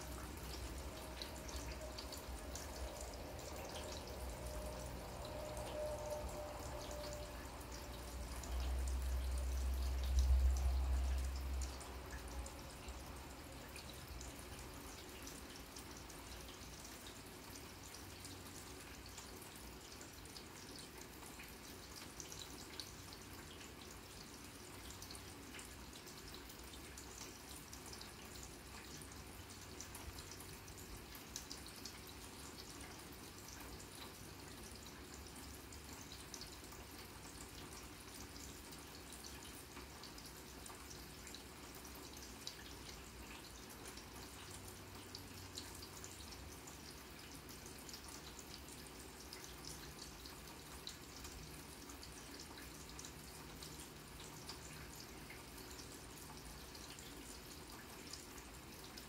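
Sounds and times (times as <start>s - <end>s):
water drips: 0.0s - 59.0s.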